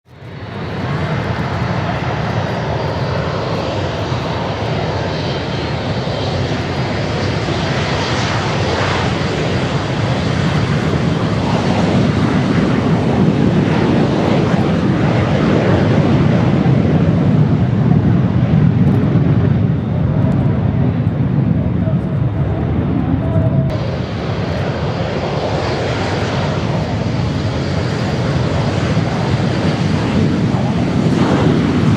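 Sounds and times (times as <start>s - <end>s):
jet engines rushing overhead: 0.1s - 31.9s.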